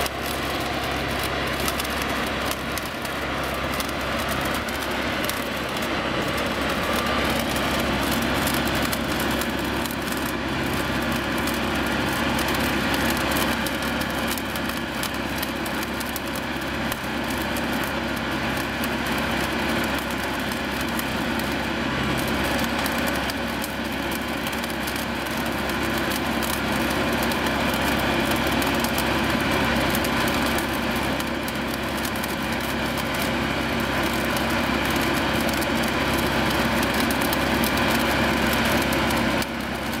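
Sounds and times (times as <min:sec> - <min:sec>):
welding machine engine running: 0:00.0 - 0:40.0.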